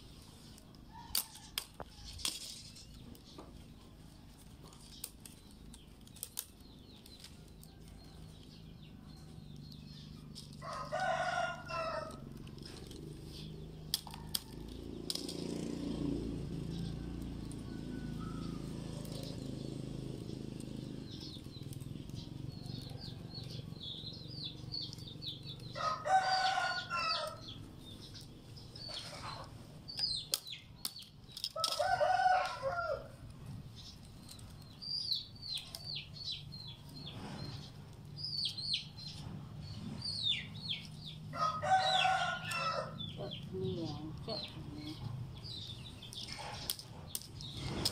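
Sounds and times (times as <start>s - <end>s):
small birds chirping: 0.0s - 47.9s
chickens calling: 0.6s - 47.9s.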